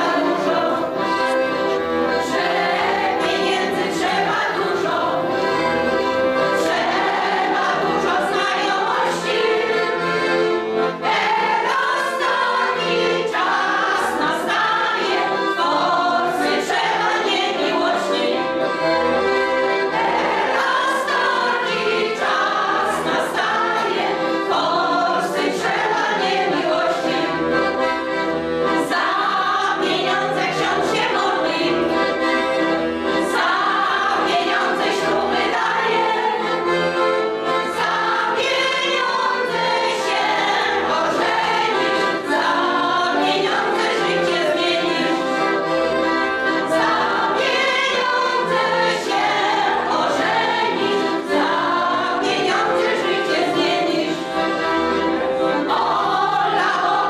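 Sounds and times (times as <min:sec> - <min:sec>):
accordion accompaniment: 0:00.0 - 0:57.0
choir singing: 0:00.0 - 0:57.0.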